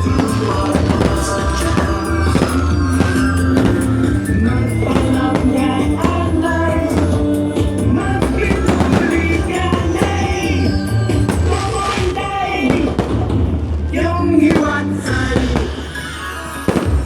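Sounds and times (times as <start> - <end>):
pop song with drum beat: 0.0 - 13.4, 14.0 - 17.0.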